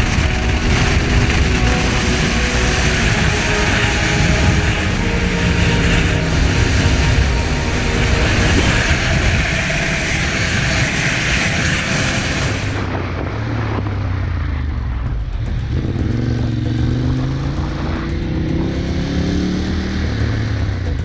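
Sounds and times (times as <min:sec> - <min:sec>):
heavy wind rush: 0:00.0 - 0:18.7
motorcycle engine running: 0:00.0 - 0:21.0.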